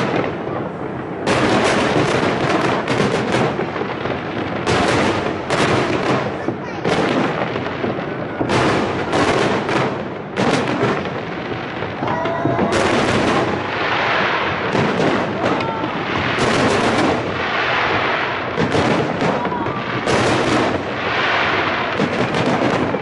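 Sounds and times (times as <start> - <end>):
fireworks bangs: 0.0 - 23.0
fireworks crackling and rumble: 0.0 - 23.0.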